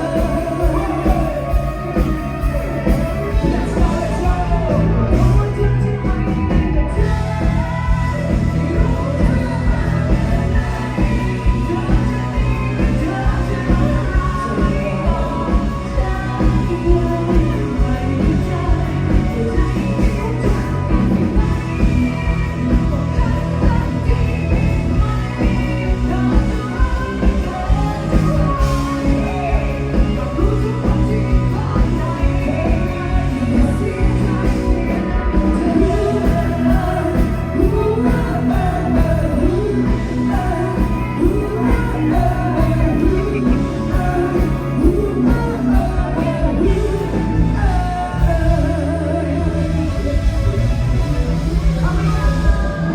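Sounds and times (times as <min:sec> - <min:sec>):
live rock band playing: 0:00.0 - 0:52.9
person singing: 0:00.0 - 0:52.9.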